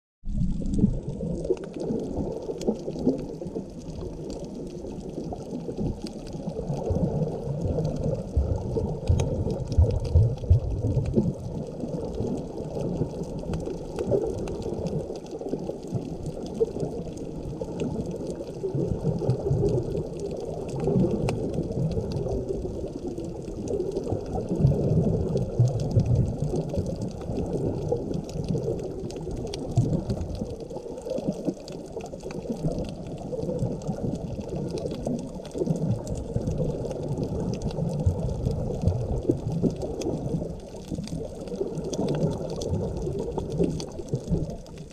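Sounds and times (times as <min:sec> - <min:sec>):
underwater rumble and slosh: 0:00.2 - 0:44.9
faint ticks: 0:00.6 - 0:44.9.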